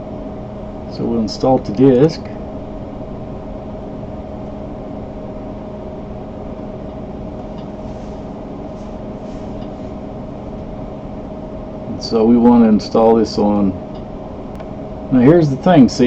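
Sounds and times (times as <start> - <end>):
computer fans humming: 0.0 - 16.0.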